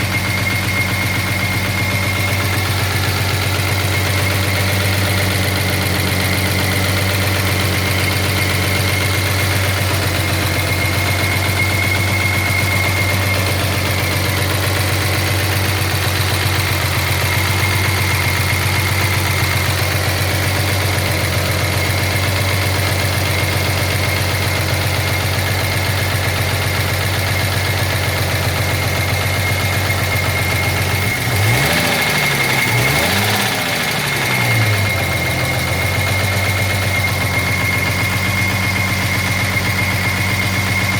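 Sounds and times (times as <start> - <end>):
car engine idling with knock: 0.0 - 40.9
engine revving: 0.0 - 40.9.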